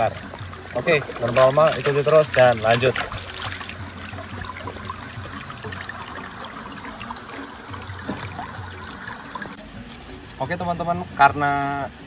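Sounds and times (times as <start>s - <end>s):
river water trickling: 0.0s - 12.0s.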